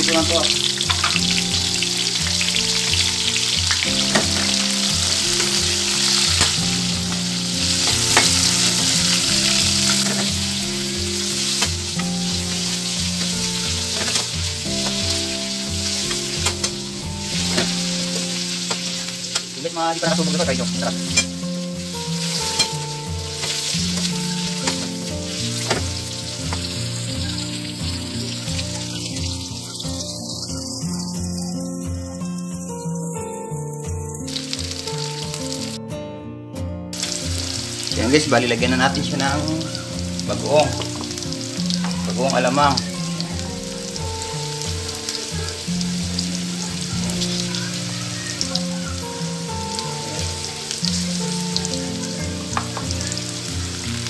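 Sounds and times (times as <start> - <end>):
oil sizzling in a wok: 0.0 - 35.8, 36.9 - 54.0.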